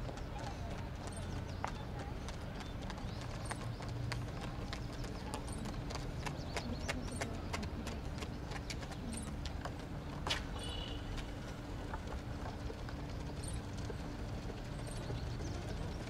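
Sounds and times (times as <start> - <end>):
low background noise: 0.0 - 16.0
running footsteps on track: 0.0 - 16.0.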